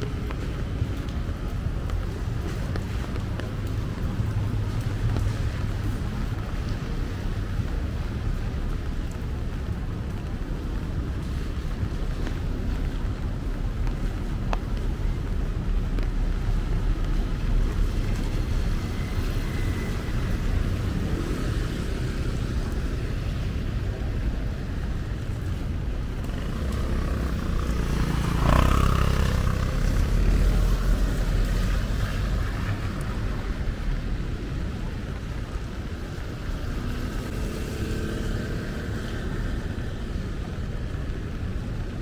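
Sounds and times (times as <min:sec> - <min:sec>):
tyres hissing on wet road: 0:00.0 - 0:42.0
wind rumbling on microphone: 0:00.0 - 0:42.0.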